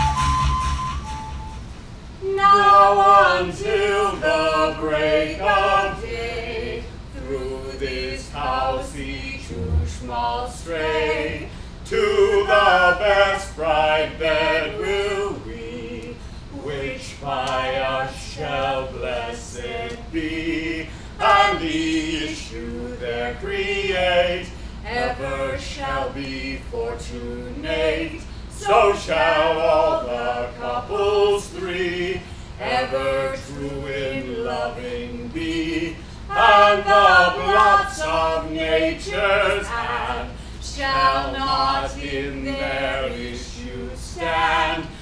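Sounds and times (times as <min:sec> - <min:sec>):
chorus singing: 0:02.2 - 0:45.0.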